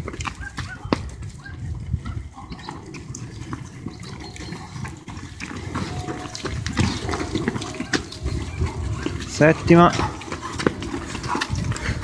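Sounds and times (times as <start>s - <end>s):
running footsteps on pavement: 0.0s - 12.0s.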